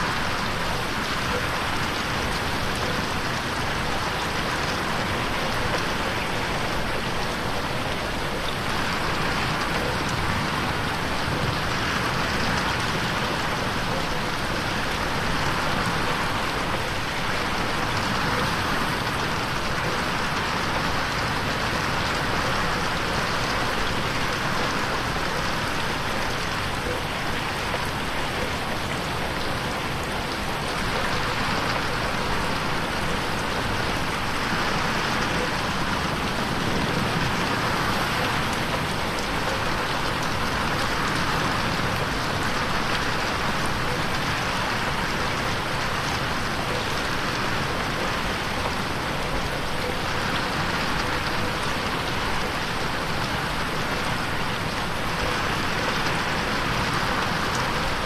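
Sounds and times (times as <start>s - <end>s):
rain pattering on window: 0.0s - 58.0s.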